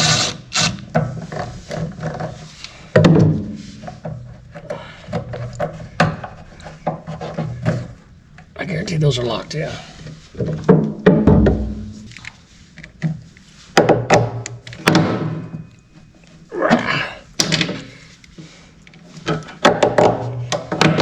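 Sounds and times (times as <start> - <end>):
hand tools clunking and knocking: 0.8 - 8.6, 10.0 - 12.1, 12.8 - 21.0.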